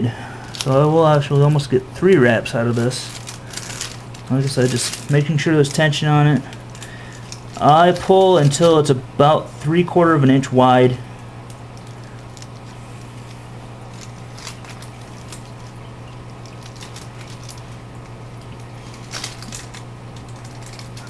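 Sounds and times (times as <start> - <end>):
tape crackling and clicking: 0.0 - 21.0.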